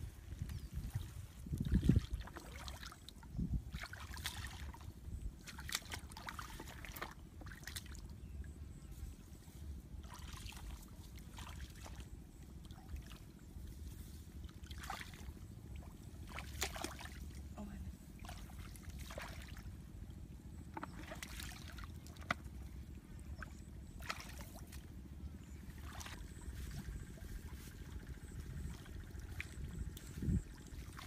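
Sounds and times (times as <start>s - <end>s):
steady low rumble: 0.0s - 31.0s
splashing through muddy water: 0.7s - 8.2s, 10.0s - 31.0s.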